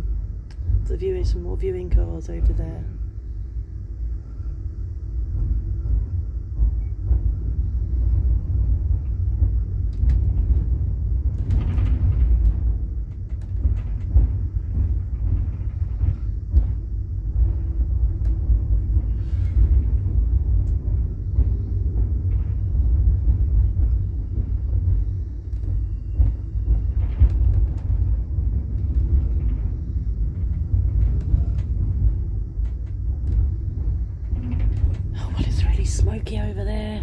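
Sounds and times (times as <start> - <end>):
train rumbling inside carriage: 0.0 - 37.0.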